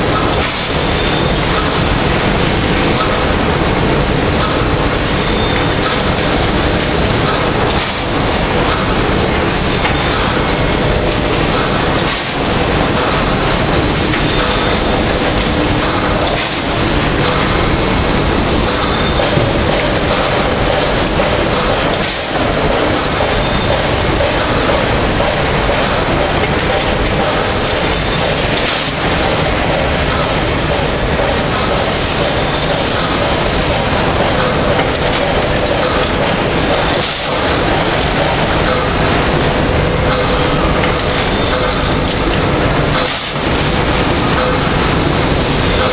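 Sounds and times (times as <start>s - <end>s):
bagging machinery running: 0.0s - 45.9s.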